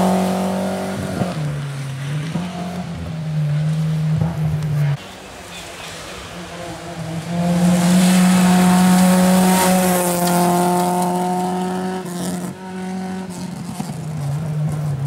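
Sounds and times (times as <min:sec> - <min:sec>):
rally car engine revving: 0:00.0 - 0:05.0, 0:06.1 - 0:15.0.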